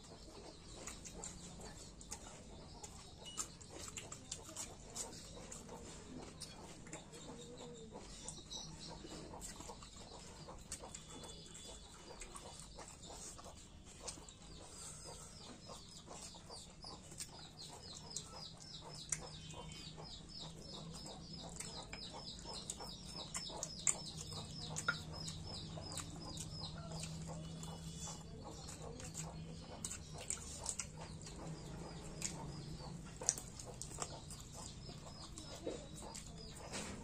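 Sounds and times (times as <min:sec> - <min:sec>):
person chewing and smacking: 0:00.0 - 0:37.0
small bird chirping: 0:00.0 - 0:37.0.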